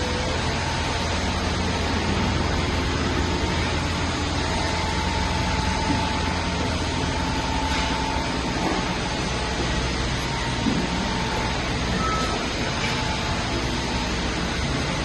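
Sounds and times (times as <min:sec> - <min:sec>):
lathe mechanical hum: 0:00.0 - 0:15.0
thin steady whine: 0:00.0 - 0:15.0.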